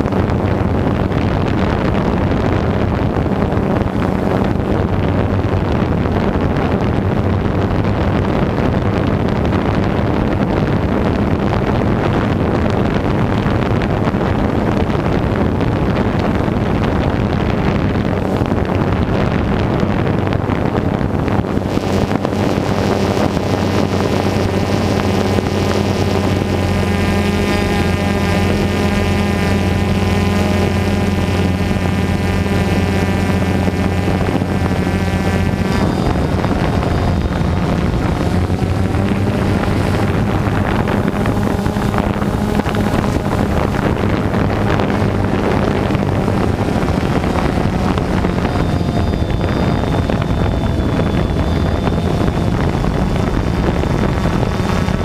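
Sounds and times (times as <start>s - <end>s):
drone propellers buzzing: 0.0s - 55.0s
high whine: 0.0s - 55.0s
wind on microphone: 0.0s - 55.0s.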